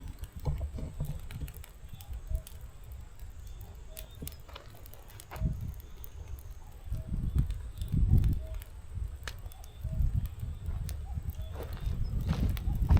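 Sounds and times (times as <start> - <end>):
firewood crackling and popping: 0.0 - 12.9
low rumble of flames: 0.0 - 12.9.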